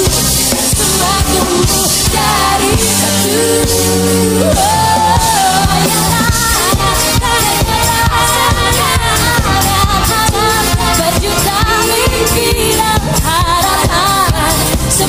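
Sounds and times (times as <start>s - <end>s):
harmony voices: 0.0s - 14.7s
band with drums: 0.0s - 15.0s
women singing pop song: 0.0s - 15.0s.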